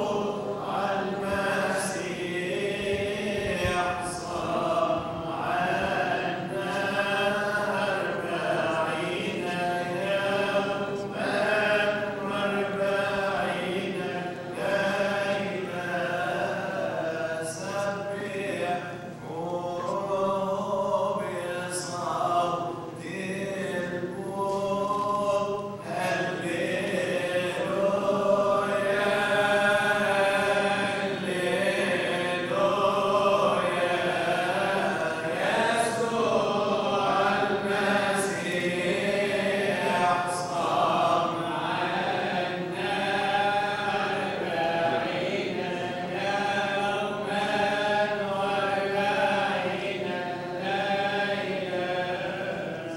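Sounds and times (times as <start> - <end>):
voices singing a chant: 0.0 - 52.9.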